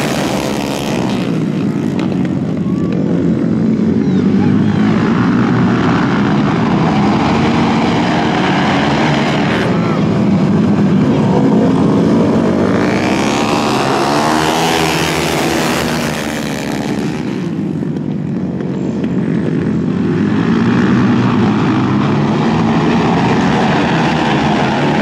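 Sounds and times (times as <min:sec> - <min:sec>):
motorcycle engines passing: 0:00.0 - 0:25.0.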